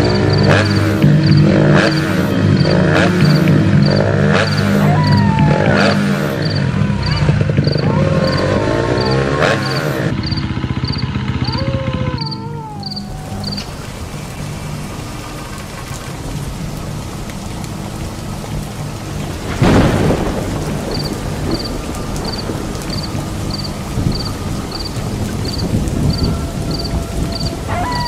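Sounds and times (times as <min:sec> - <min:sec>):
steady rain: 0:00.0 - 0:28.0
thunderclap: 0:00.0 - 0:28.0.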